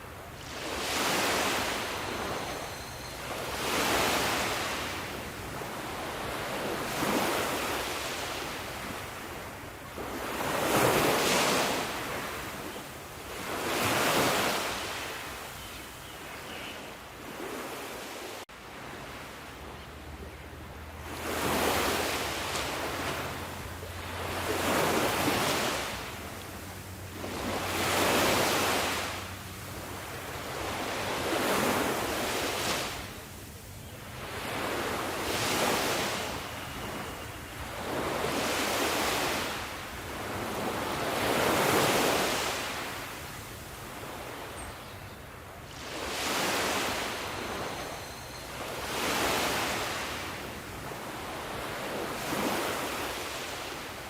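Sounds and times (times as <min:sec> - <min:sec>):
ocean waves breaking: 0:00.0 - 0:15.4, 0:17.2 - 0:33.5, 0:34.1 - 0:44.6, 0:45.4 - 0:54.0.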